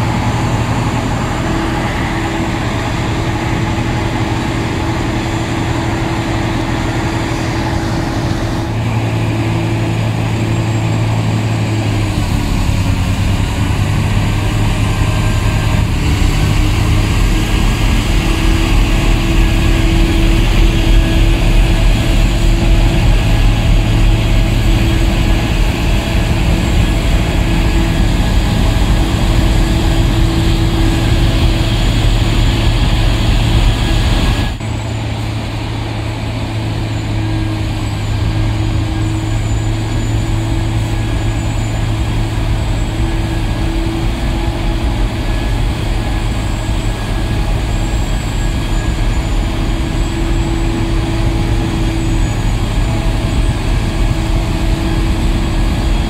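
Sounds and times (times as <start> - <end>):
snowblower and diesel engines: 0.0 - 56.0.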